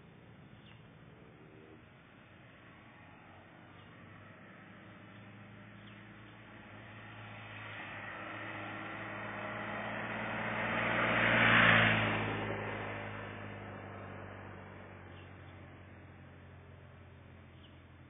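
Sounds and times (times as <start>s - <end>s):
motorcycle riding past: 0.0s - 18.0s.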